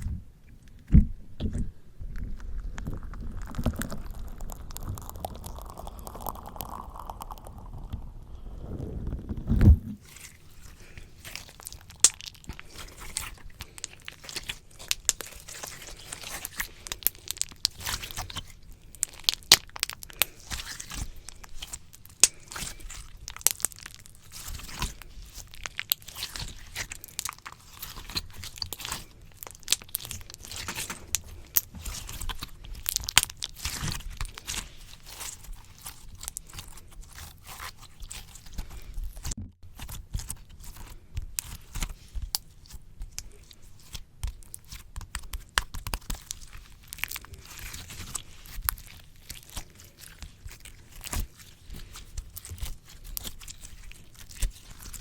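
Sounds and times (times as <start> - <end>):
slime squishing on microphone: 0.0 - 55.0.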